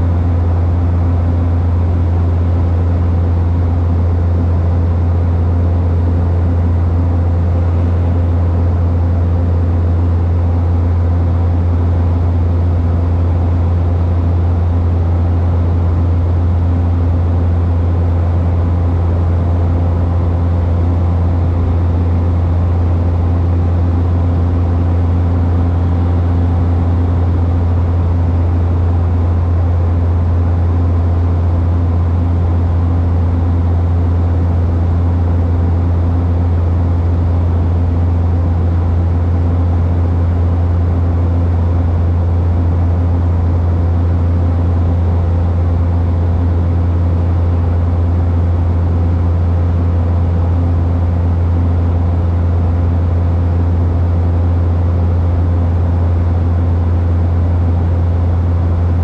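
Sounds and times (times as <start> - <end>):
deep propeller drone: 0.0 - 59.0
rush of engine and air noise: 0.0 - 59.0.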